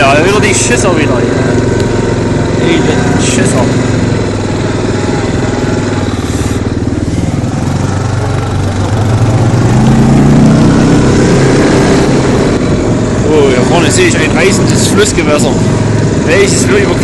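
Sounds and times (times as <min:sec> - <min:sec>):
atv engine pulsing and revving: 0:00.0 - 0:17.0.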